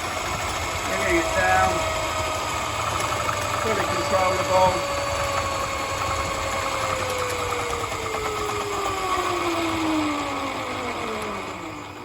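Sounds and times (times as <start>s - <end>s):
drill motor whining: 0.0s - 12.0s.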